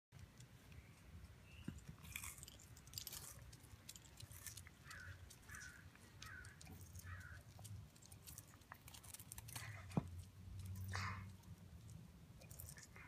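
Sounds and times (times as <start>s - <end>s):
tortoise chewing carrots: 0.1s - 13.0s.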